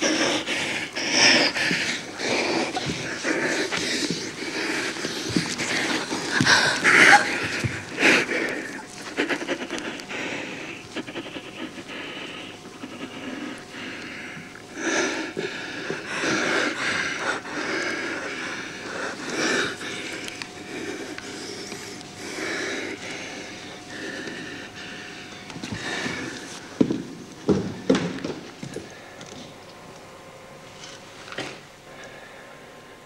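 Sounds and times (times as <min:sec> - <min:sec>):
person breathing heavily: 0:00.0 - 0:26.8, 0:31.9 - 0:33.0.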